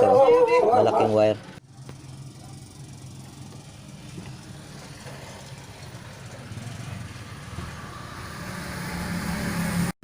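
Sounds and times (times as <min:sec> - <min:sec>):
vehicle engine idling: 0:00.0 - 0:09.9.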